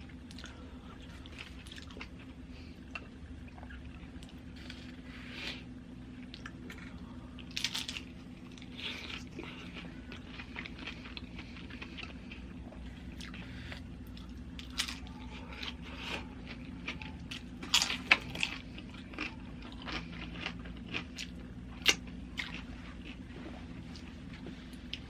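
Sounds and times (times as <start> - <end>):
chewing and crunching chips: 0.0 - 25.0
steady low hum: 0.0 - 25.0.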